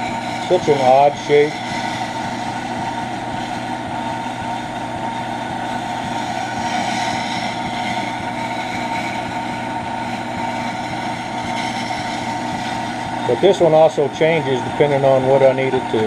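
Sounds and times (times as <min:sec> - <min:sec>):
gouge grinding against wheel: 0:00.0 - 0:16.0
grinder motor hum: 0:00.0 - 0:16.0.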